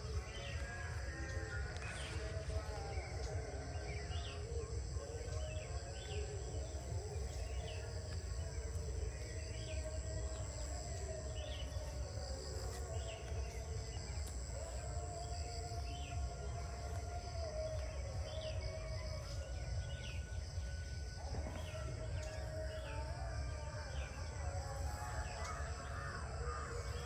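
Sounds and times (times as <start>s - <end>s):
high drone of insects: 0.0s - 27.0s.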